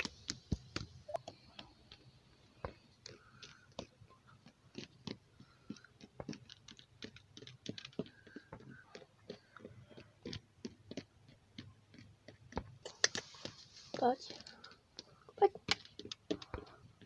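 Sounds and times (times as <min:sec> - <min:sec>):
toy hooves tapping on concrete: 0:00.0 - 0:17.0.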